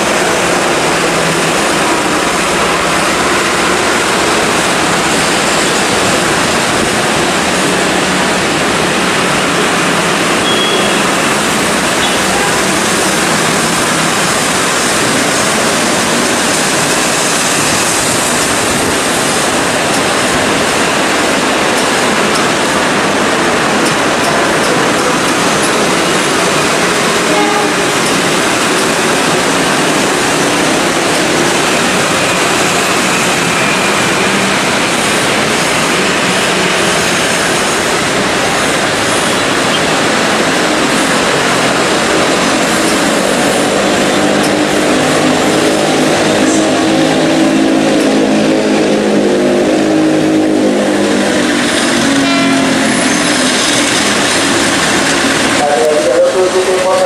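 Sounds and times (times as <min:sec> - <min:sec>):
locomotive engine hum: 0:00.0 - 0:57.0.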